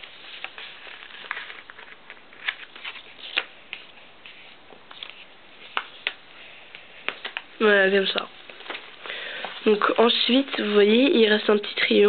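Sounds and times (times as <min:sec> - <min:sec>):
paper folding crackles and rustles: 0:00.0 - 0:11.8.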